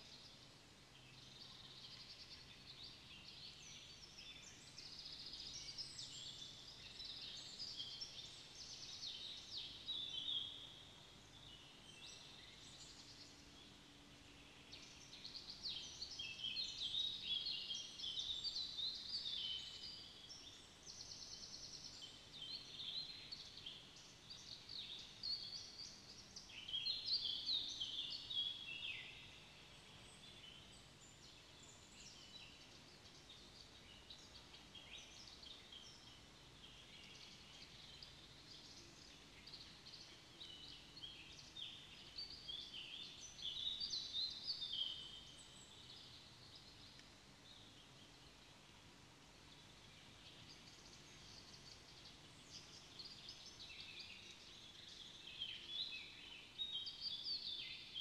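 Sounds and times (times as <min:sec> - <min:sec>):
small birds singing: 0:00.0 - 0:58.0.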